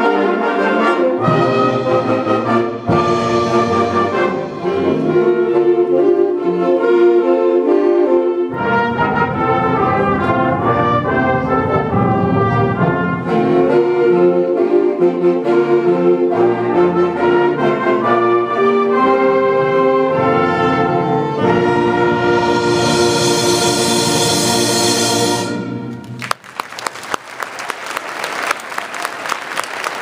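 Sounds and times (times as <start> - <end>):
concert band playing: 0.0 - 26.4.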